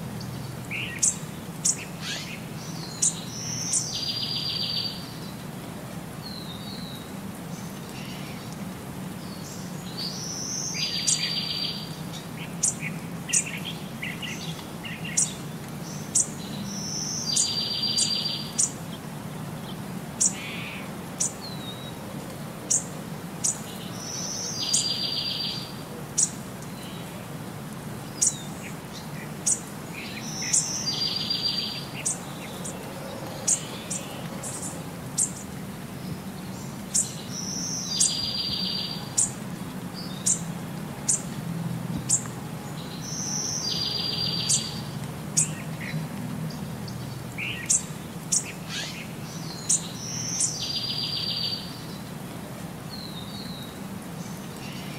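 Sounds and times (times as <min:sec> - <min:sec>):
birdsong chirps and trill: 0:00.2 - 0:05.4, 0:09.2 - 0:19.0, 0:19.6 - 0:22.0, 0:22.7 - 0:27.1, 0:28.0 - 0:39.4, 0:40.0 - 0:41.3, 0:42.0 - 0:52.1.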